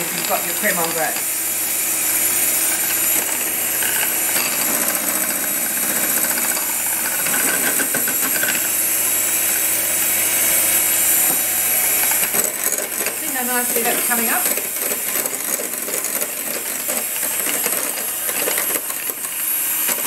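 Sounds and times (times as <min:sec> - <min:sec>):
electric hand mixer running: 0:00.0 - 0:20.0.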